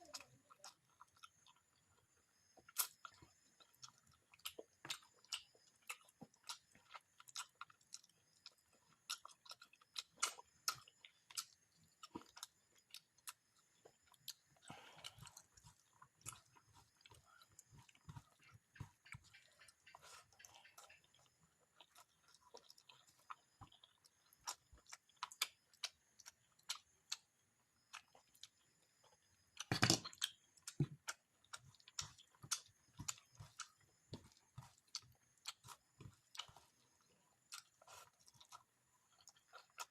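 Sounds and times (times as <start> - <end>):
wet chewing and lip smacks: 0.1 - 39.9.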